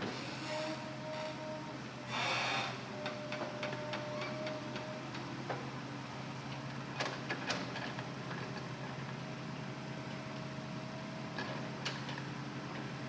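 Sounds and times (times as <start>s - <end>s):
excavator engine humming: 0.0s - 13.0s.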